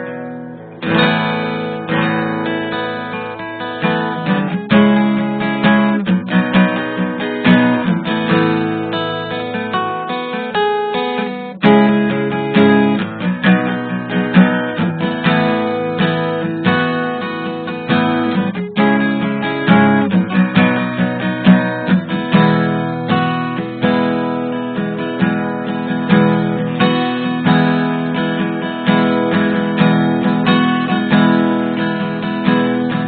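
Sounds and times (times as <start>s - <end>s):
acoustic guitar strummed and plucked: 0.0s - 33.0s.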